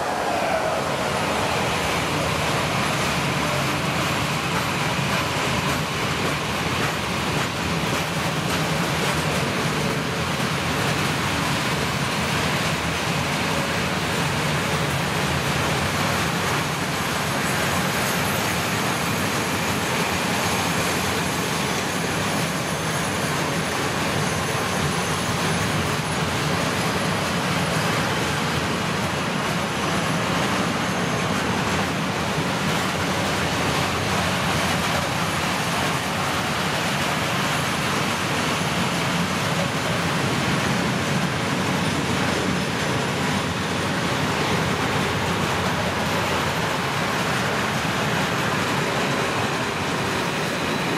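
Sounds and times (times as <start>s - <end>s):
train wheels running on rails: 0.0s - 50.9s.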